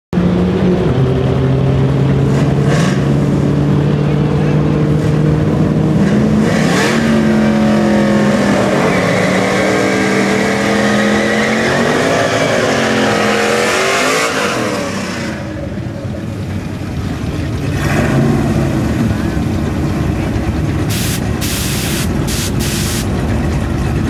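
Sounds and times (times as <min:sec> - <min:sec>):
car engine revving: 0:00.2 - 0:24.0.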